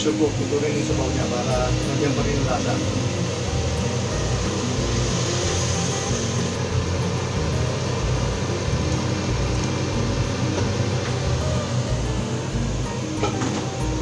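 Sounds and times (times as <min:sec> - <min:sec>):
broth pouring into a metal pot: 0:00.0 - 0:14.0
low hum: 0:00.0 - 0:14.0.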